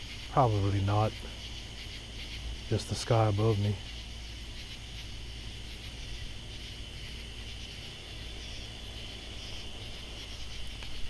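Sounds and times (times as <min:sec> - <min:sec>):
katydids buzzing: 0:00.0 - 0:11.0
low steady hum: 0:00.0 - 0:11.0.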